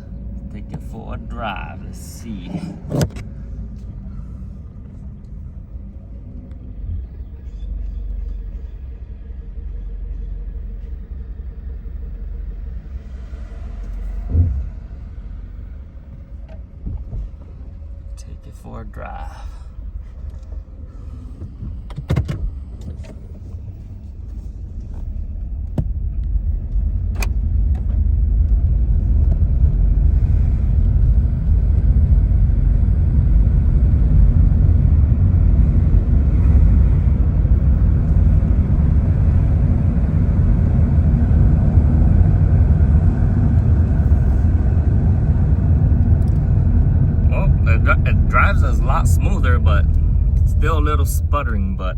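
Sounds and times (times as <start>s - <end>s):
car engine pulling away: 0.0s - 51.8s
road noise: 0.0s - 51.9s.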